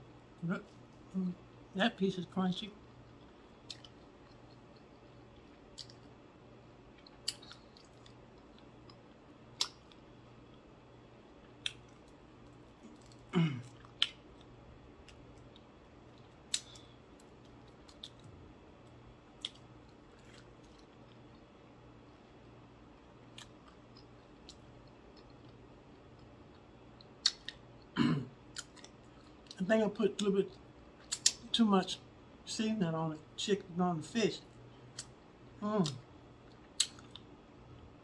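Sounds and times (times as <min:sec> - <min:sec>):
chewing crispy fried fish: 0:02.2 - 0:31.6, 0:34.4 - 0:37.4.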